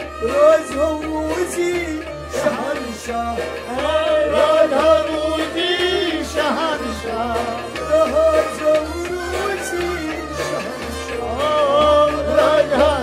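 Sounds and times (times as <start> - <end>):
harmonium: 0.0 - 13.0
man singing: 0.0 - 13.0.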